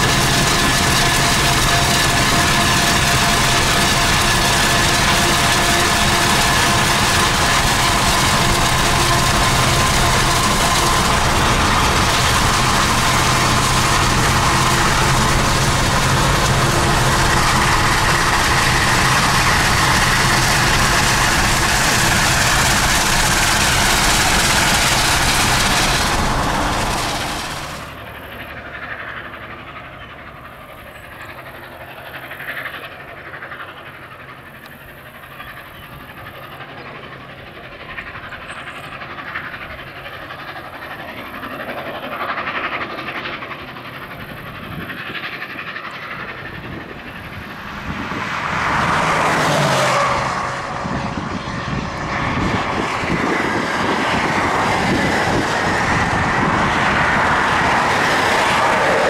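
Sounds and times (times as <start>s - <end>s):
train cars rolling by: 0.0s - 59.0s.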